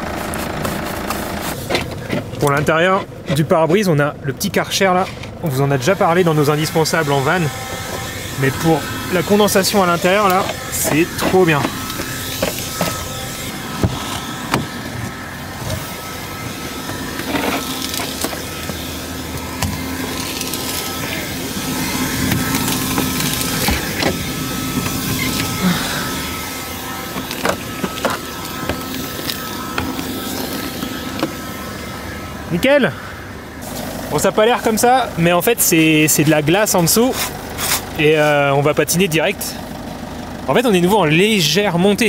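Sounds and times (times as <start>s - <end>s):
window vacuum whining: 0.0s - 3.6s, 4.7s - 38.9s.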